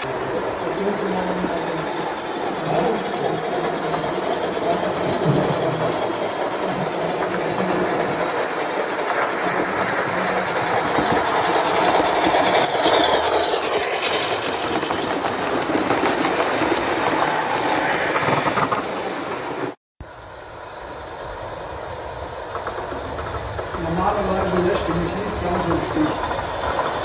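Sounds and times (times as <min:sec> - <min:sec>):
model train wheels clattering: 0:00.0 - 0:19.0, 0:22.1 - 0:27.0.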